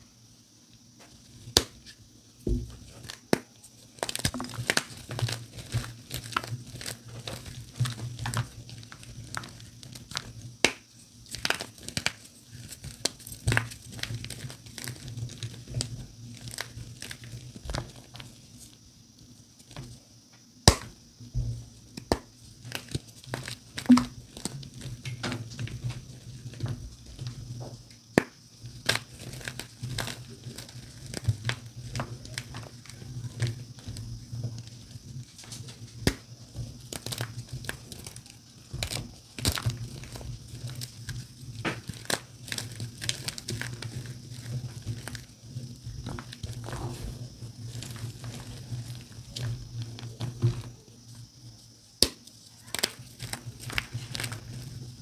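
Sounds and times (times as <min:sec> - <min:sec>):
chalk snapping and crumbling: 0:02.6 - 0:18.8, 0:20.6 - 0:21.0, 0:21.8 - 0:51.3, 0:52.0 - 0:55.0.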